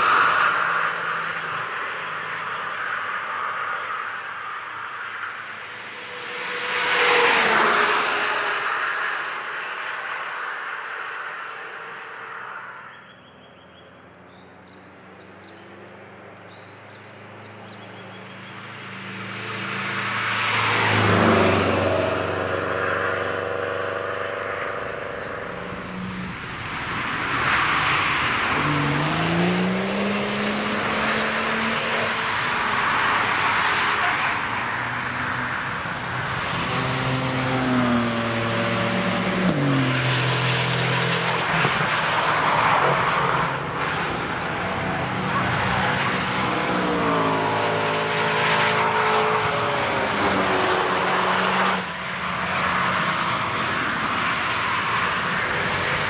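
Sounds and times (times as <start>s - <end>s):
race cars driving past: 0.0s - 56.0s.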